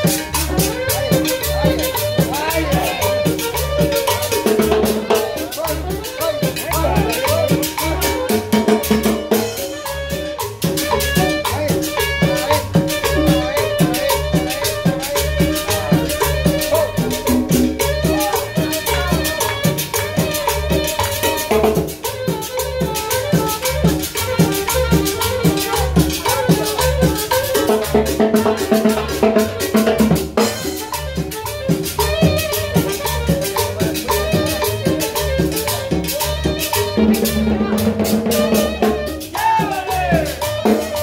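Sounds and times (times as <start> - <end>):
congas: 0.0 - 41.0
rattling hand percussion: 0.0 - 41.0
saxophone melody: 0.0 - 41.0.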